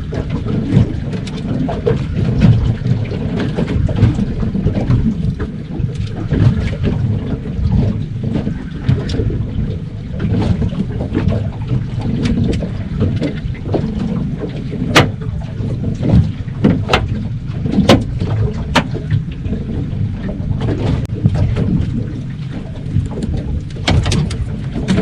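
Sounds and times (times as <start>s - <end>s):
water lapping on boat: 0.0s - 25.0s
wind buffeting microphone: 0.0s - 25.0s.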